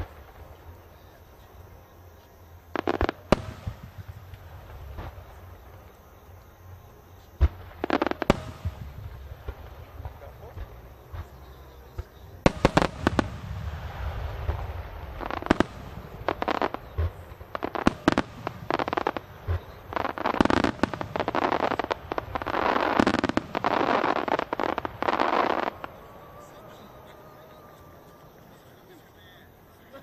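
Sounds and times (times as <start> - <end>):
fireworks crackling: 0.0 - 30.0
fireworks shells booming: 2.8 - 5.9, 7.4 - 29.0.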